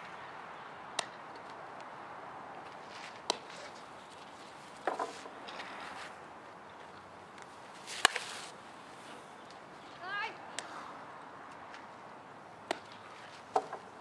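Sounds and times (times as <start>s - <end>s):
faint outdoor background: 0.0s - 14.0s.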